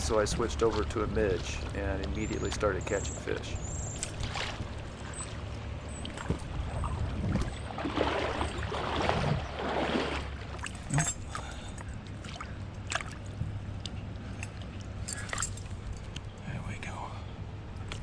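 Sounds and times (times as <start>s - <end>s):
water splashing: 0.0s - 16.1s
steady low rumble: 0.0s - 18.0s.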